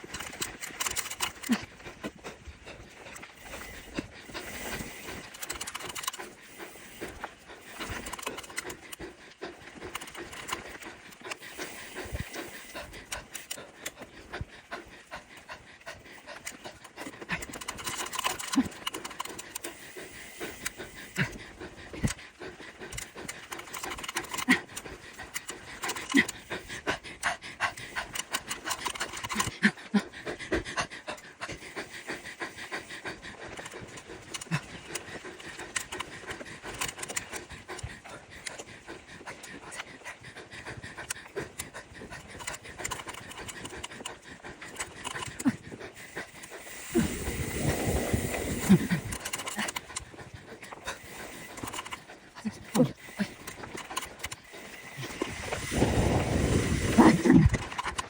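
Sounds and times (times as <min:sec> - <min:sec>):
person panting heavily: 0:00.0 - 0:58.0.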